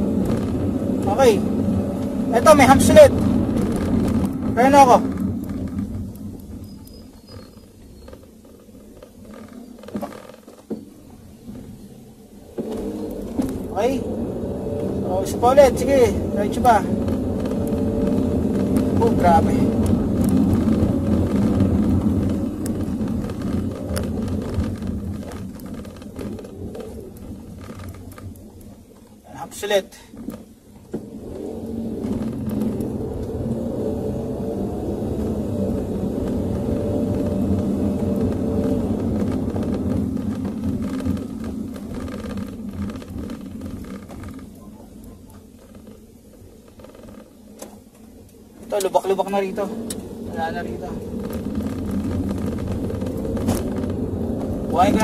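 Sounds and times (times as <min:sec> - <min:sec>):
car road and tyre noise: 0:00.0 - 0:55.0.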